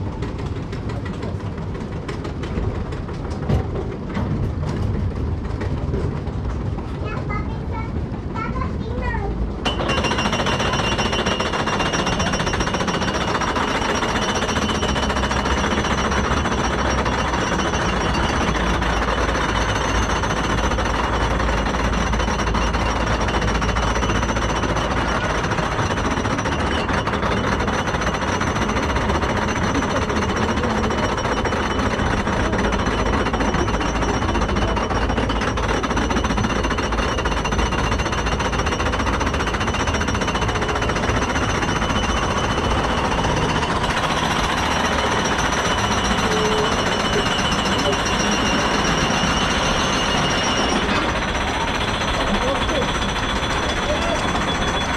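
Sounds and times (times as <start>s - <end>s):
chain lift mechanical clatter: 9.6s - 54.9s.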